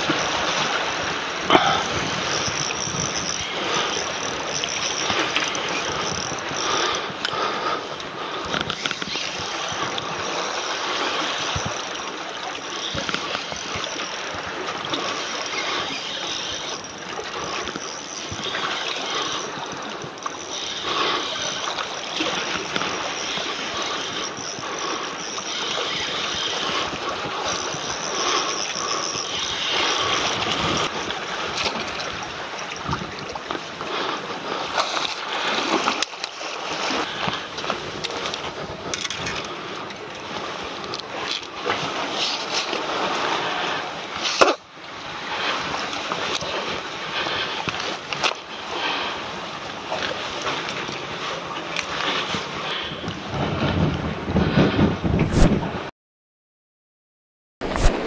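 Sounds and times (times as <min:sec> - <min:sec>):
seawater sloshing among concrete: 0:00.0 - 0:53.8.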